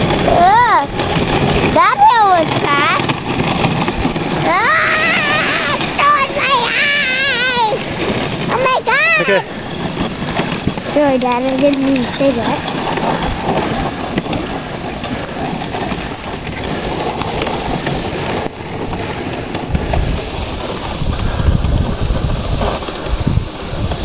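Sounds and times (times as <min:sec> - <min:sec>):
low rumbling: 0:00.0 - 0:24.0
sled runners rattling on snow: 0:00.0 - 0:24.0.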